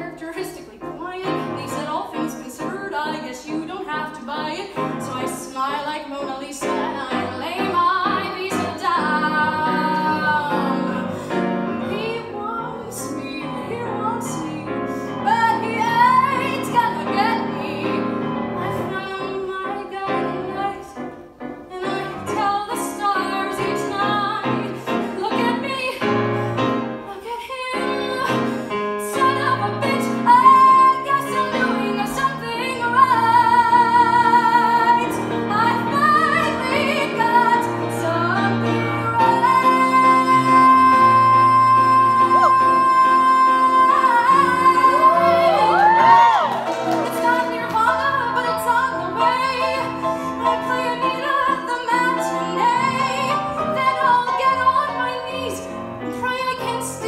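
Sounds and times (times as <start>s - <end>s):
piano accompaniment: 0.0s - 57.0s
woman singing into a microphone: 0.0s - 57.0s.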